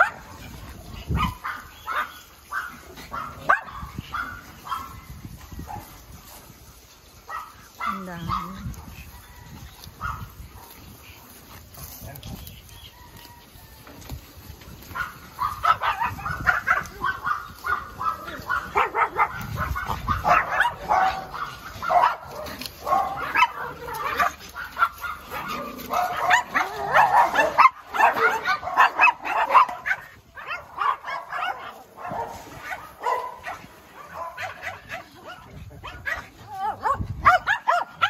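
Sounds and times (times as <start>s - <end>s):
dogs barking: 0.0s - 12.0s, 14.7s - 38.0s.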